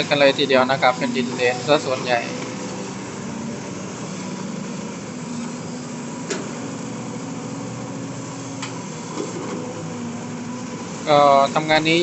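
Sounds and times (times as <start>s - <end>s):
diesel excavator engine under load: 0.0s - 12.0s
excavator digging wet mud: 0.0s - 12.0s.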